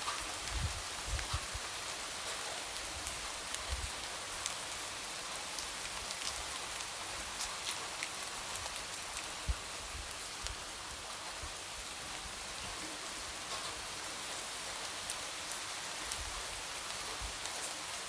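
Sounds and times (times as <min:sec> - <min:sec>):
light rain pattering on window: 0:00.0 - 0:18.0.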